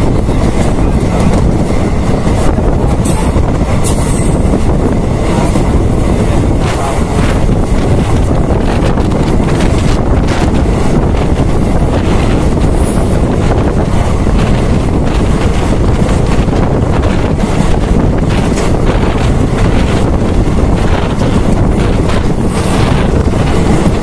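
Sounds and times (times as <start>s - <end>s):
train rumbling along track: 0.0s - 24.0s
wind buffeting microphone: 0.0s - 24.0s.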